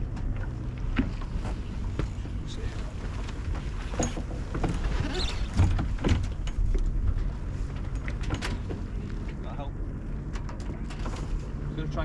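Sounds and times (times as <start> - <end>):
boat knocks and clicks: 0.0 - 9.5, 10.2 - 11.6
wind and water rumble: 0.0 - 12.0.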